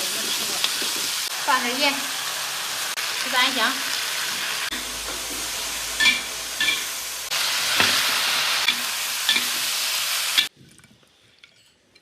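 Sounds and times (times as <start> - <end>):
meat sizzling in a pan: 0.0 - 10.5.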